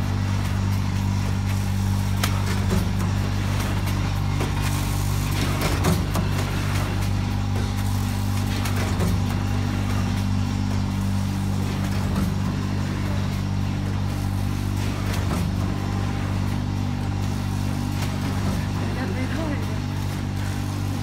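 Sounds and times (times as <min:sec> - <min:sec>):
packing machine humming: 0:00.0 - 0:21.0.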